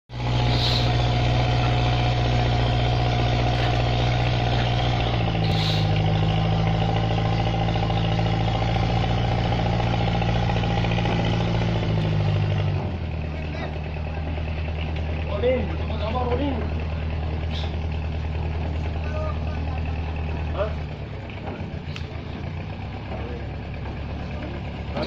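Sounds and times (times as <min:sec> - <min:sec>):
diesel engine idling: 0:00.1 - 0:25.0.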